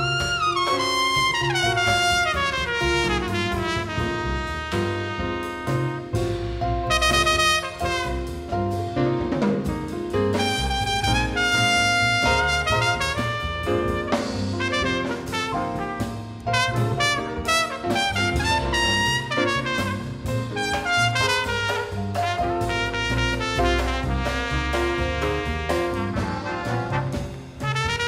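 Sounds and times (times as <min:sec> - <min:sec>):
trumpet melody: 0:00.0 - 0:08.8, 0:10.2 - 0:28.0
jazz big band playing: 0:00.0 - 0:28.0.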